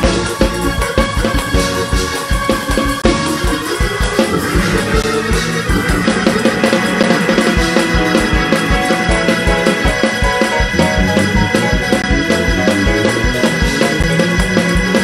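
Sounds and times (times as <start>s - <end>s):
fast steady drum beat: 0.0s - 15.0s
organ playing held chords: 0.0s - 15.0s.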